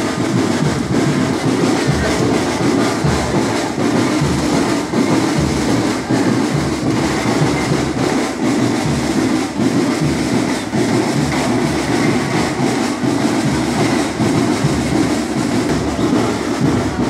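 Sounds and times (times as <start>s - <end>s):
marching band drums: 0.0s - 17.0s.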